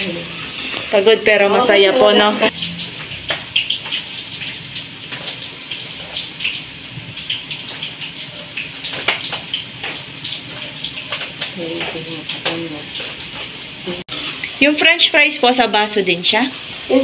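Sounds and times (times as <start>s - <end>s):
fries sizzling in oil: 0.0s - 17.0s.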